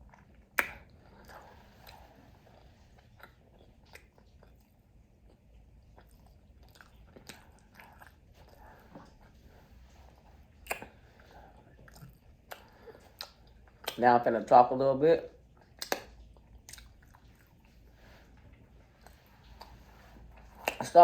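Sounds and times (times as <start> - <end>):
mouth clicks and crunches: 0.0 - 9.4, 10.5 - 14.1, 15.5 - 21.0
person chewing food: 0.0 - 14.0, 15.3 - 20.9.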